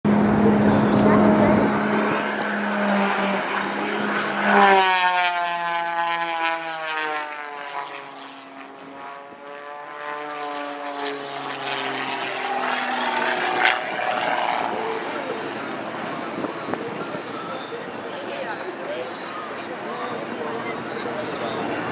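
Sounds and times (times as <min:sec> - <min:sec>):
propeller plane engine whine: 0:00.1 - 0:21.9.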